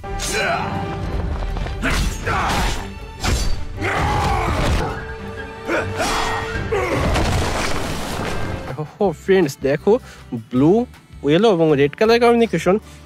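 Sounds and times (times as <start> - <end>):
dramatic soundtrack music: 0.0 - 11.3.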